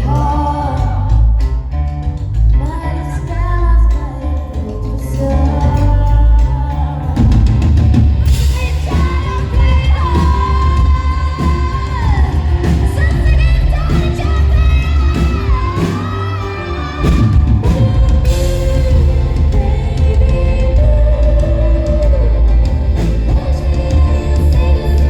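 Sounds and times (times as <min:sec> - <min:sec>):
woman singing: 0:00.0 - 0:01.8, 0:02.6 - 0:07.6, 0:08.2 - 0:25.0
live rock band: 0:00.0 - 0:25.0.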